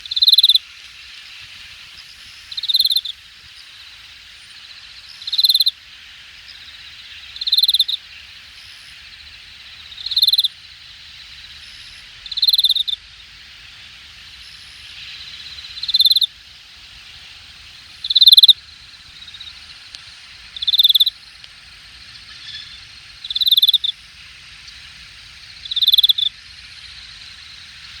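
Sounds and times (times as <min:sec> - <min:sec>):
insects chorus: 0:00.0 - 0:28.0
louder insect short call: 0:00.0 - 0:28.0.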